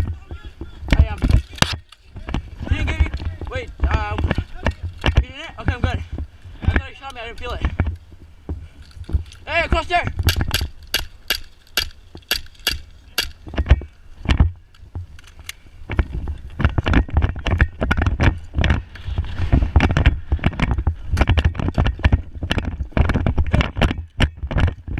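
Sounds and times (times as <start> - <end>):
wind rumble on microphone: 0.0 - 11.0, 12.0 - 24.9.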